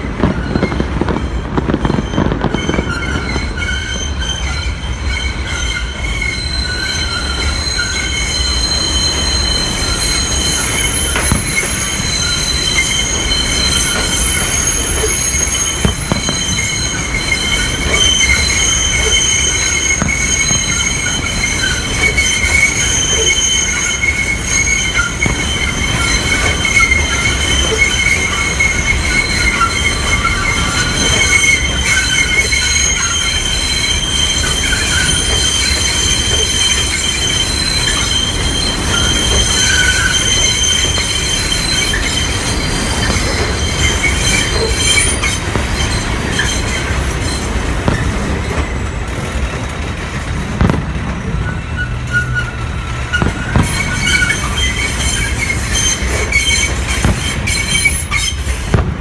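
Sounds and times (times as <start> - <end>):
train wheels squealing on rails: 0.0 - 59.0.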